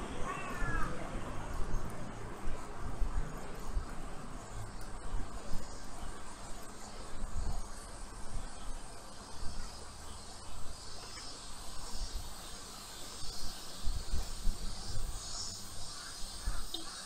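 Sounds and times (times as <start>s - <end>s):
wind rumbling on microphone: 0.0s - 17.0s
insects droning: 0.1s - 17.0s.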